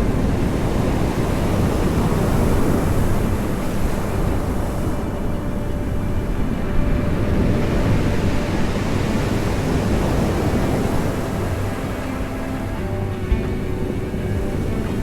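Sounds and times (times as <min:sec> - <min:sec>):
waves rumbling on shore: 0:00.0 - 0:15.0.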